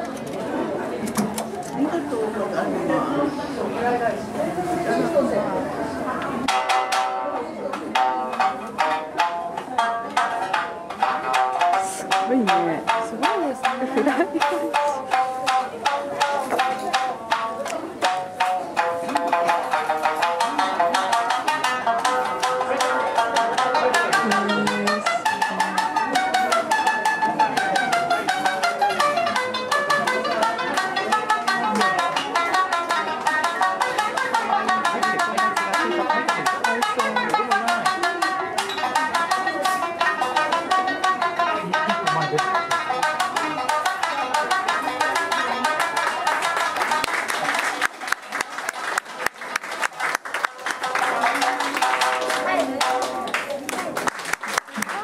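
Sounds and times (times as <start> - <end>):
shamisen plucking: 0.0 - 55.0.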